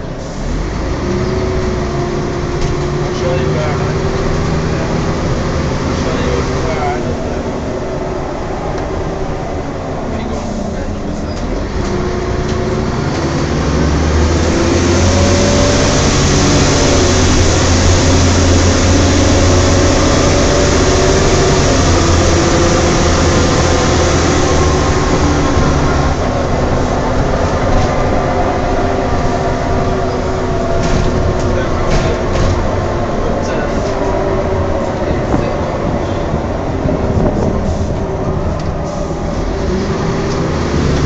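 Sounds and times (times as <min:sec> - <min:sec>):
bus drivetrain and road noise: 0:00.0 - 0:41.0
whining tones rising in pitch: 0:00.9 - 0:41.0.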